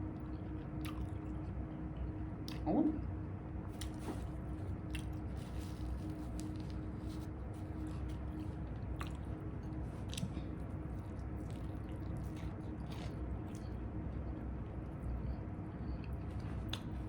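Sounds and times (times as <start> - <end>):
chewing crunchy food: 0.2 - 2.7, 3.7 - 17.0.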